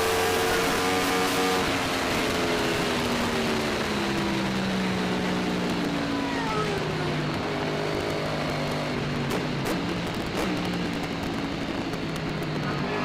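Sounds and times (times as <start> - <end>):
racing motorcycle engine: 0.0 - 13.0.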